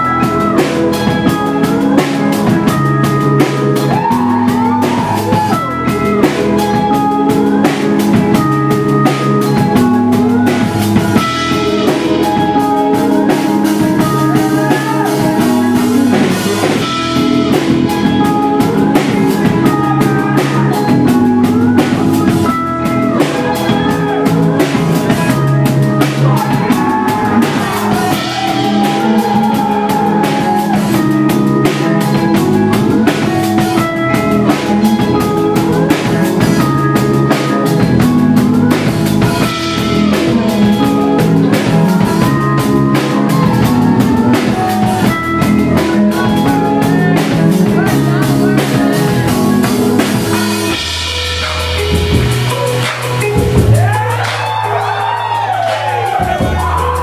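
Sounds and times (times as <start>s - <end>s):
drum kit beat: 0.0s - 57.0s
electric guitar playing: 0.0s - 57.0s.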